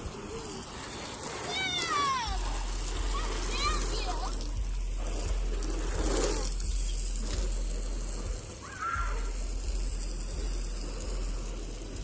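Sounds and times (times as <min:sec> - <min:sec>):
hose water spraying and splashing: 0:00.0 - 0:12.0.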